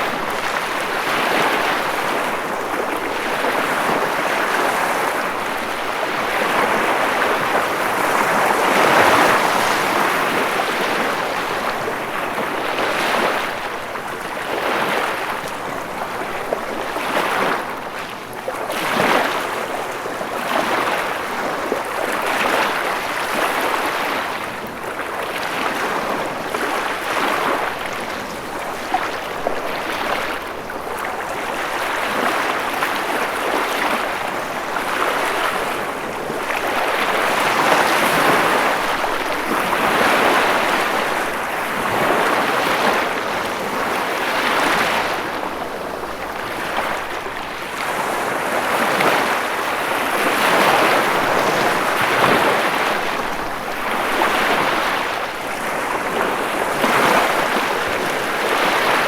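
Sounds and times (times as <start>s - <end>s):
ocean waves washing on shore: 0.0s - 59.0s.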